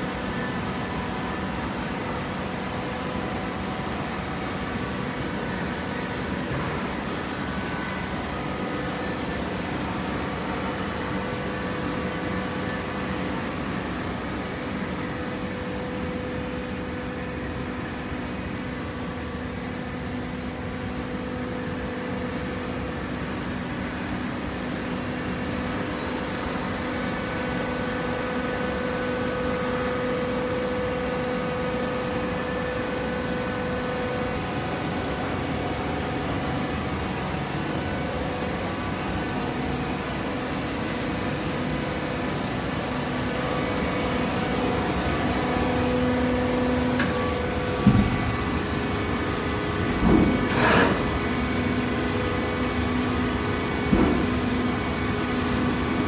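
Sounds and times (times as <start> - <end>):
baler machine hum: 0.0 - 56.0
machine whine: 0.0 - 56.0.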